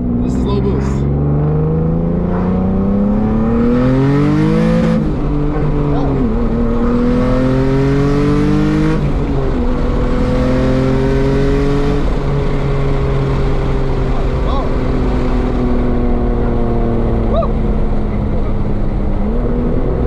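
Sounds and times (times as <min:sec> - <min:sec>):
turbo car engine accelerating hard: 0:00.0 - 0:20.0.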